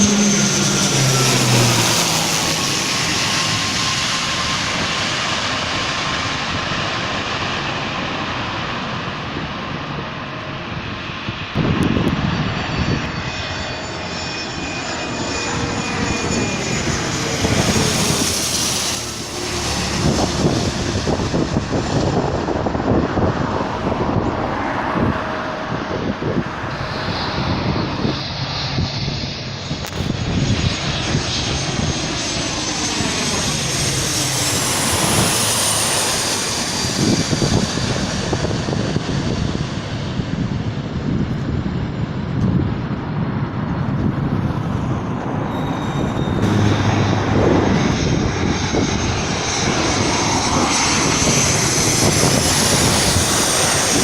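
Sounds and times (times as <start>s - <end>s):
airliner engine roar overhead: 0.0s - 54.0s.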